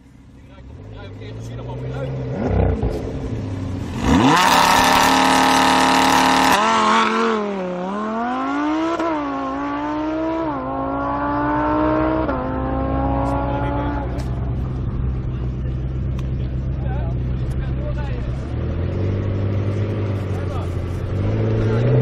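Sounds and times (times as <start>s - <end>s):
sports car engine revving: 0.7s - 22.0s.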